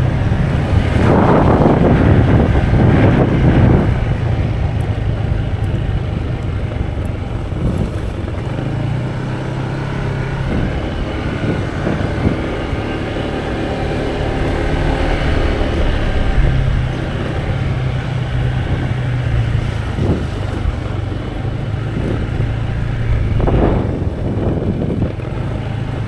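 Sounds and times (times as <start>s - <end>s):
wind noise rushing: 0.0s - 6.2s, 10.1s - 25.9s
vehicle engine hum: 0.0s - 26.0s.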